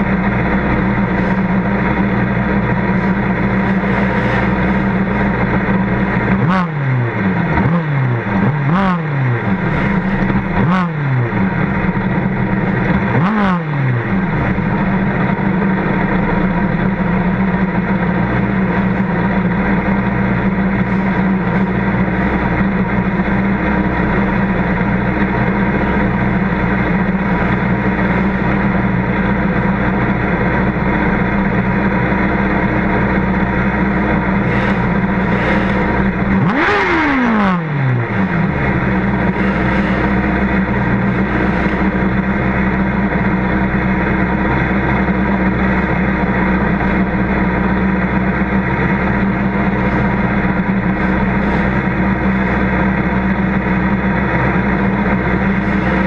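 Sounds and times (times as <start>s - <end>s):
race car engine idling and revving: 0.0s - 56.0s.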